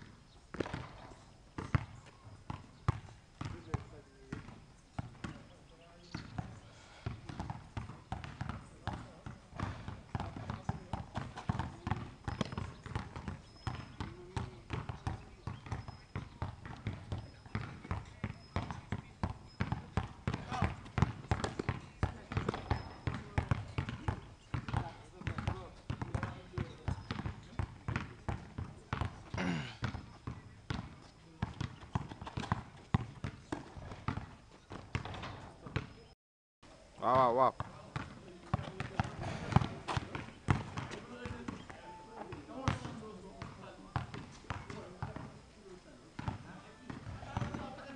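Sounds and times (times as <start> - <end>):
basketball bouncing on hard court: 0.0 - 36.0, 37.6 - 45.3, 46.2 - 47.9.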